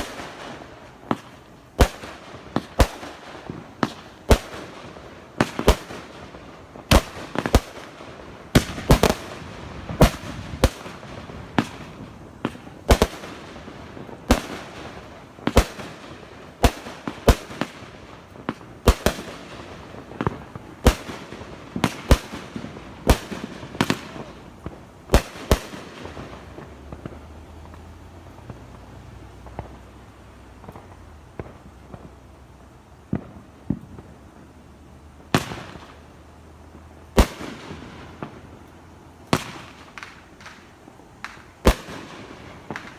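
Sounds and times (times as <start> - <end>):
fireworks banging: 0.0 - 32.4, 36.7 - 38.7, 39.3 - 42.9.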